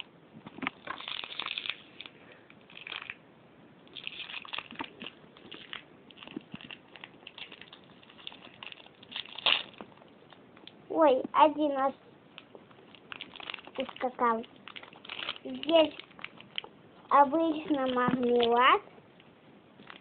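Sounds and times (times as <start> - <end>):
candy packaging crinkling: 0.5 - 3.2, 3.9 - 10.8, 12.3 - 18.8, 19.8 - 20.0.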